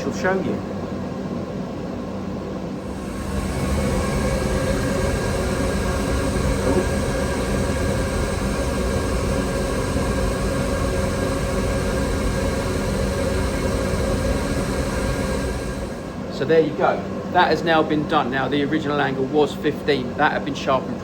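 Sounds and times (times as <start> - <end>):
workshop machinery humming: 2.3 - 21.0.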